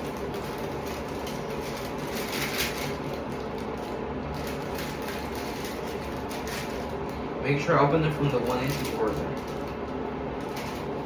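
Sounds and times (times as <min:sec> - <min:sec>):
paper wrapper rustling: 0:00.0 - 0:07.2, 0:08.1 - 0:11.0
low background hum: 0:00.0 - 0:11.0.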